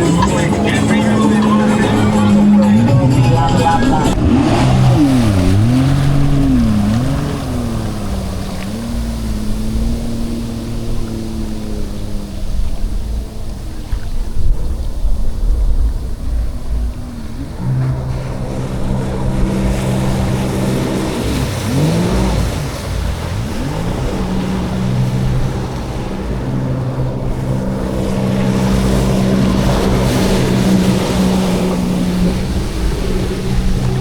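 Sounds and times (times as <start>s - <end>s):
jet ski engine running: 0.0s - 34.0s
water noise: 0.0s - 34.0s
wind noise: 0.0s - 34.0s.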